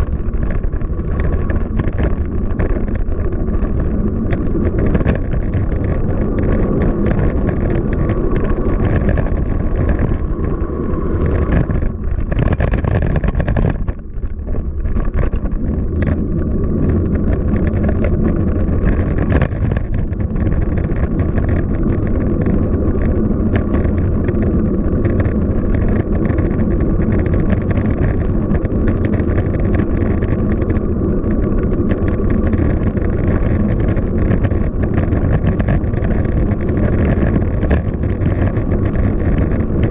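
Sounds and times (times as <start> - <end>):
city traffic rumble: 0.0 - 39.9
wind rushing over microphone: 0.0 - 39.9.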